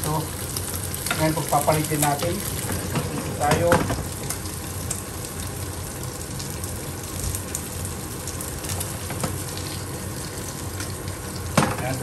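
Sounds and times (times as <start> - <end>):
fish sizzling in frying pan: 0.0 - 12.0.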